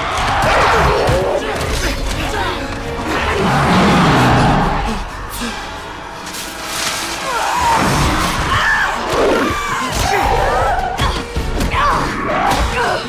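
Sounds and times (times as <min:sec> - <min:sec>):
tense film score music: 0:00.0 - 0:13.0.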